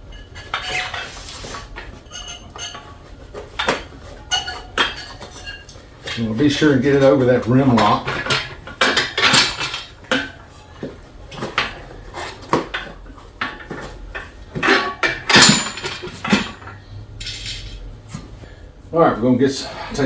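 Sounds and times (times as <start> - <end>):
tire irons clanking on wheel rim: 0.0 - 18.5.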